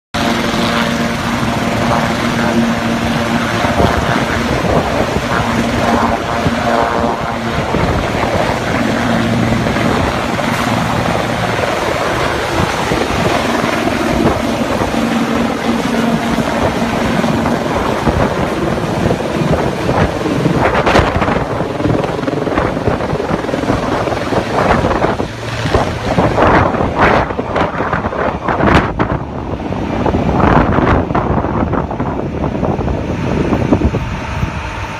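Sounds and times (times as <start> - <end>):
helicopter engine and rotor: 0.2 - 34.9
wind buffeting microphone: 0.2 - 34.9.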